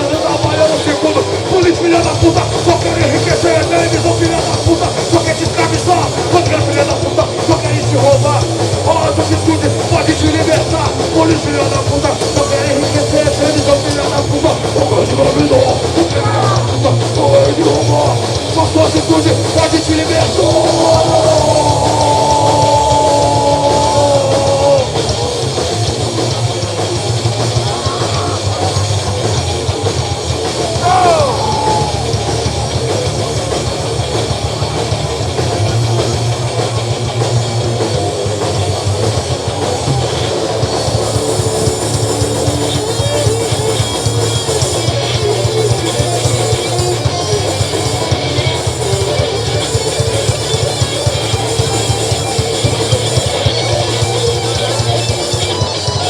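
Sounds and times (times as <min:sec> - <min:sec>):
rock band playing loudly: 0:00.0 - 0:56.0.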